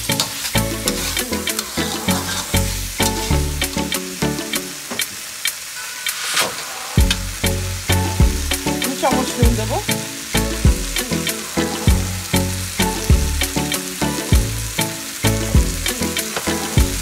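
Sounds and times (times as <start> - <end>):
background music with beat: 0.0 - 17.0
vegetables sizzling in wok: 0.0 - 17.0.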